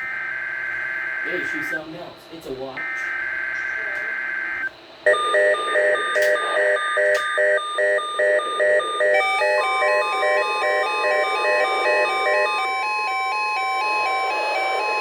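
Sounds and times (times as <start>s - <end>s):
weather radio alert beeps: 2.8s - 15.0s.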